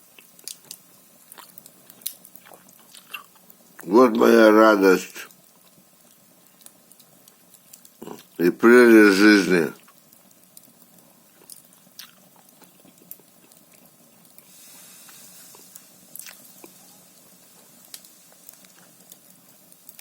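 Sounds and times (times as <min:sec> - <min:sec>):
fire crackling and popping: 0:00.0 - 0:20.0
fire hissing: 0:00.0 - 0:20.0.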